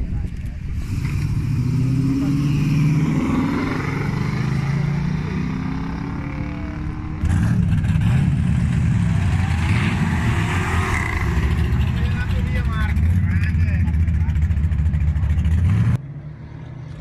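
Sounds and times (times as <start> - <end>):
race car engines accelerating: 0.6 - 17.0.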